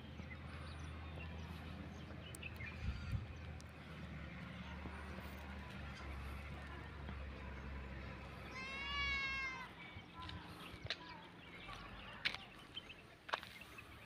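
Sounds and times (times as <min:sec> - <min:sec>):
footsteps on gravel: 0:00.5 - 0:14.0.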